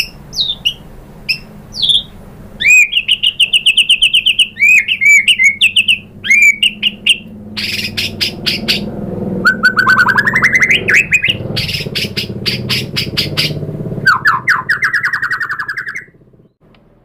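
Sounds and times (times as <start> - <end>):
songbird trilling and clicking: 0.0 - 8.9, 9.5 - 16.1
low hum: 0.0 - 17.0.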